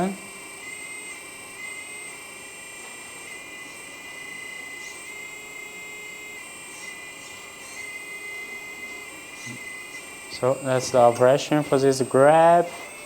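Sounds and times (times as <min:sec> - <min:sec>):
electric hydraulic pump whining: 0:00.0 - 0:13.0.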